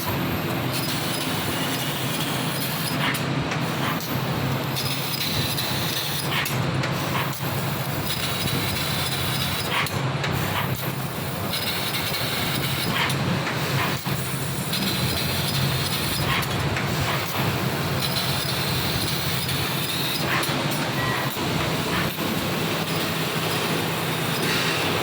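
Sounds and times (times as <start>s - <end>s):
laser cutter low hum: 0.0s - 25.0s.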